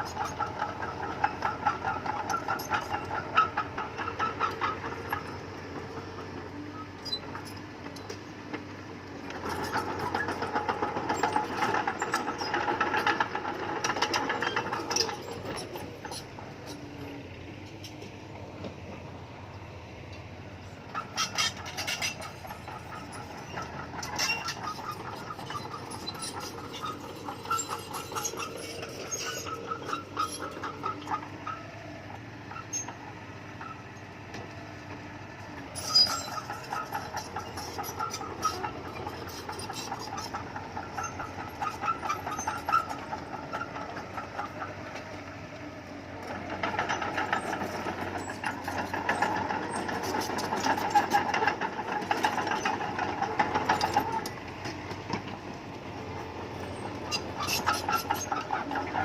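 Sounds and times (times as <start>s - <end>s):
bulldozer diesel engine clattering: 0.0s - 59.0s.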